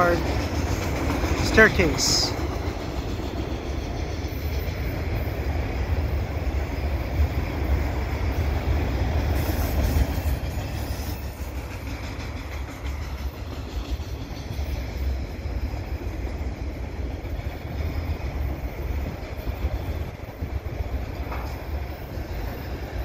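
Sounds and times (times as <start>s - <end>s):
steel wheels rumbling on rails: 0.0s - 23.0s.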